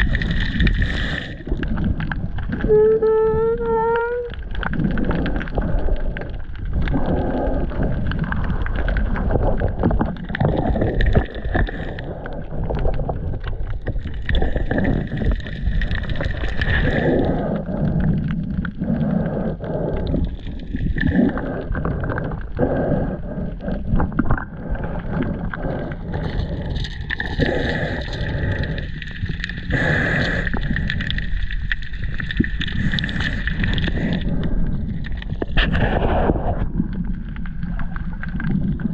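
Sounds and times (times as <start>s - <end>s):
small underwater clicks and knocks: 0.0s - 22.7s, 23.4s - 38.9s
underwater rumble of moving water: 0.0s - 38.9s.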